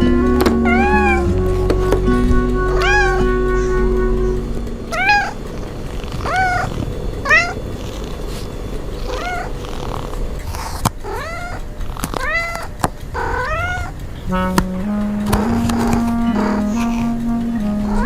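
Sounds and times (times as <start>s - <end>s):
low rumbling haze: 0.0s - 18.0s
cat meowing: 0.3s - 2.0s, 2.7s - 7.6s, 8.3s - 9.8s, 10.5s - 14.7s, 15.3s - 17.2s, 17.8s - 18.0s.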